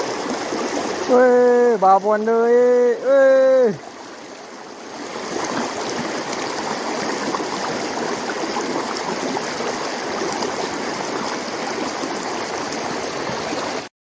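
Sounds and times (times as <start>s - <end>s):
stream water splashing over rocks: 0.0s - 13.9s.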